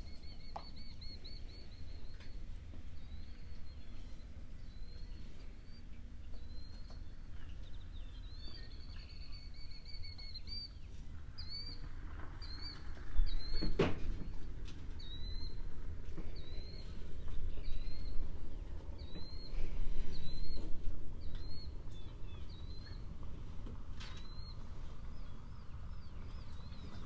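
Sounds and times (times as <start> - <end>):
small bird chirping: 0.0 - 15.7, 16.3 - 23.2, 24.0 - 27.0
low wind rumble: 0.0 - 27.0.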